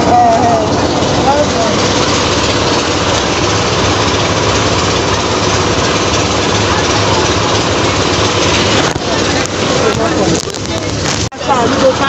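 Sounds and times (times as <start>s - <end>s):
continuous noise: 0.0s - 12.0s
loud engine hum: 0.0s - 12.0s.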